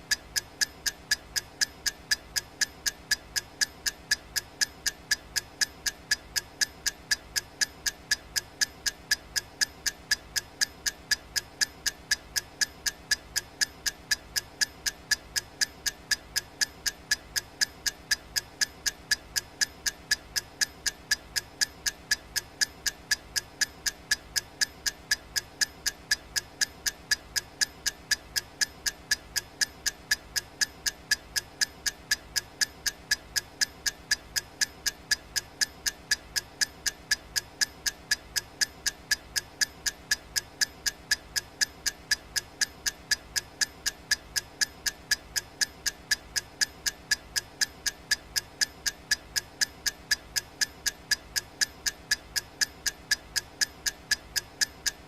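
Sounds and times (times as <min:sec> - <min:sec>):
clock ticking: 0:00.0 - 0:55.0.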